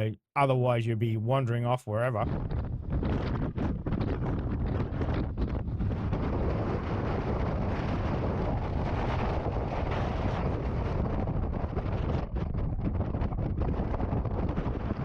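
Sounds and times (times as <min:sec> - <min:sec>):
strong wind buffeting microphone: 0:02.2 - 0:15.0.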